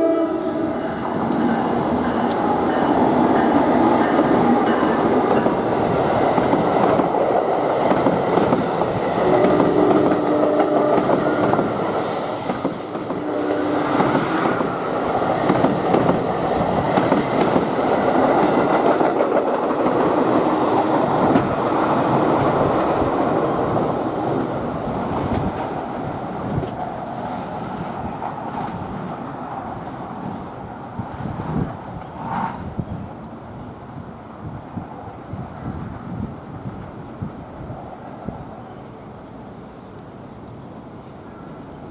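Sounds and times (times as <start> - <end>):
train wheels on rails: 0.1 - 39.0.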